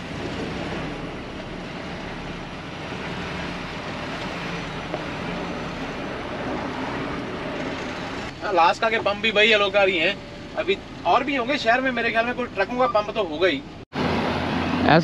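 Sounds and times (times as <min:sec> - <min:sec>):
truck cab noise: 0:00.0 - 0:15.0
truck engine running: 0:00.0 - 0:15.0.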